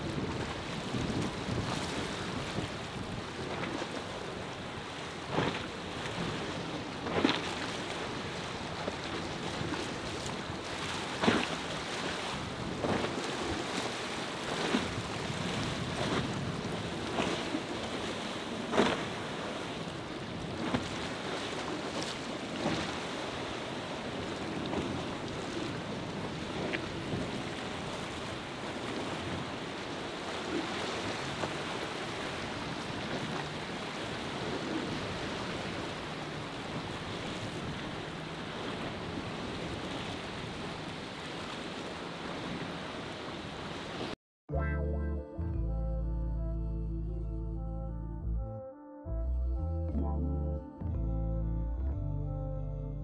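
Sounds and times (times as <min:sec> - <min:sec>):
boat hull slapping water: 0:00.0 - 0:44.2
choppy sea: 0:00.0 - 0:44.2
wind: 0:00.0 - 0:44.6.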